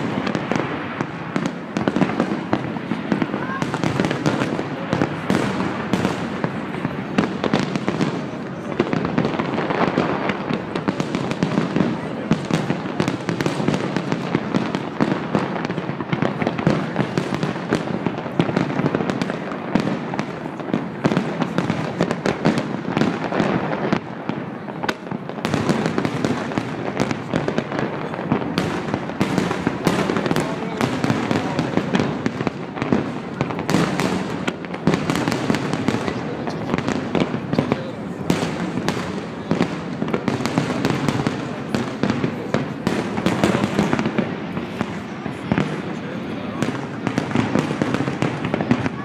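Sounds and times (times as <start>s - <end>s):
fireworks bangs and crackles: 0.0s - 49.0s
onlookers' voices: 0.0s - 49.0s.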